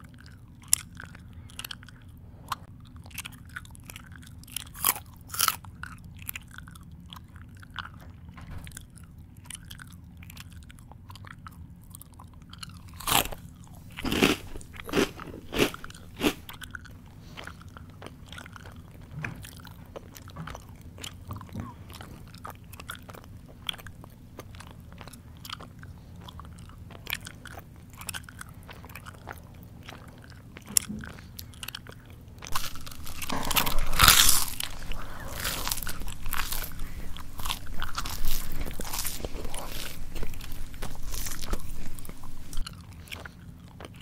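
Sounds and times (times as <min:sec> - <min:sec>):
crunching of crisp food: 0:00.0 - 0:02.1, 0:02.7 - 0:44.0
mouth chewing smacking: 0:00.0 - 0:44.0.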